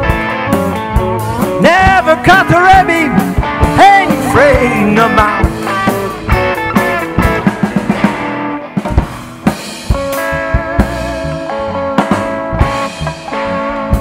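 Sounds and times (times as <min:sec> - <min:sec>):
blues band playing: 0:00.0 - 0:14.0
drum strikes: 0:00.0 - 0:14.0
wavering guitar notes: 0:00.0 - 0:14.0.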